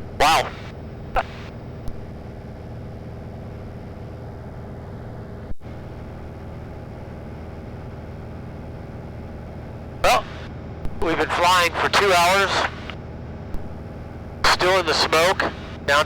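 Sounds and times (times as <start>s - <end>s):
light aircraft engine droning: 0.0s - 16.0s.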